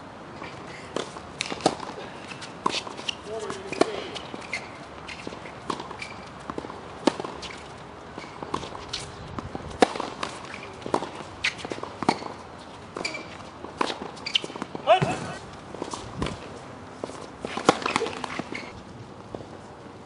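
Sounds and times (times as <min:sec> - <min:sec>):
footsteps on court: 0:00.4 - 0:19.7.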